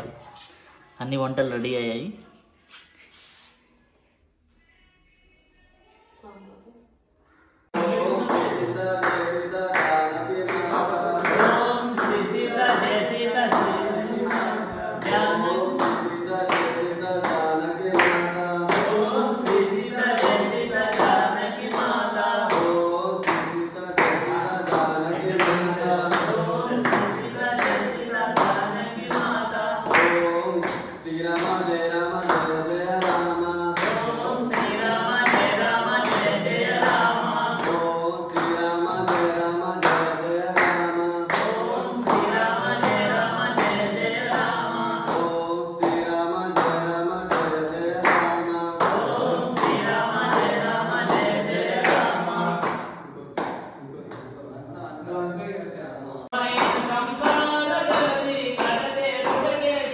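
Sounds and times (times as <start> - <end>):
men singing together: 7.7 - 54.2, 56.2 - 59.9
hand claps: 7.8 - 54.3, 56.4 - 59.6.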